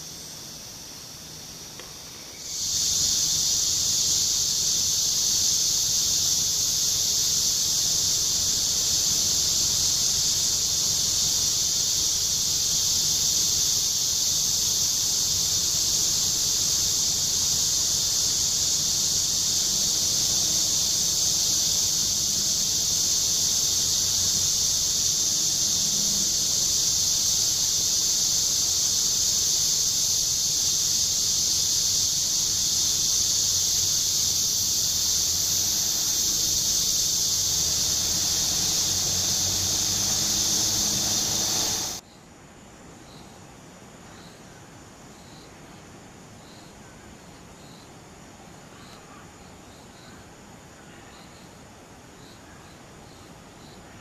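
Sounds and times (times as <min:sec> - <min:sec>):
high-pitched insect chorus: 0:00.0 - 0:54.0.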